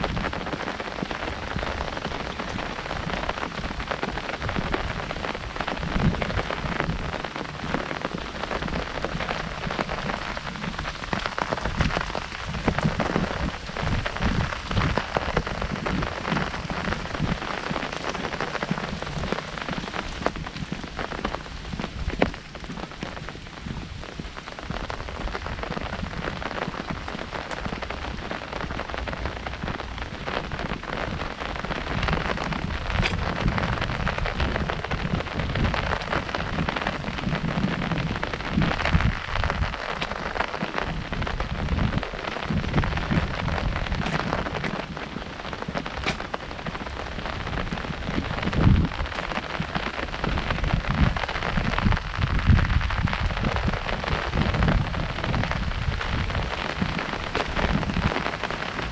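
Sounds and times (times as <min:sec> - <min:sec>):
heavy rain on an umbrella: 0:00.0 - 0:58.9.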